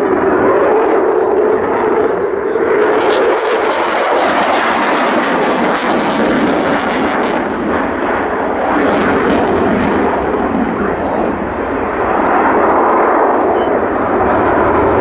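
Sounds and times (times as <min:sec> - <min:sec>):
aircraft engine running: 0:00.0 - 0:15.0.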